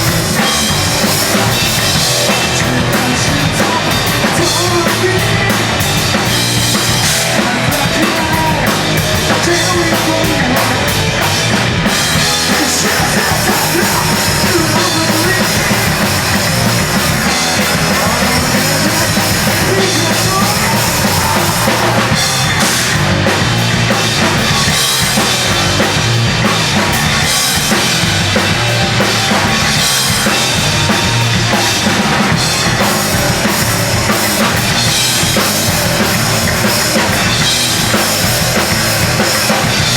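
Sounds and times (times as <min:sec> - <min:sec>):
band playing hardcore punk: 0:00.0 - 0:39.9
pounding drum kit: 0:00.0 - 0:39.9.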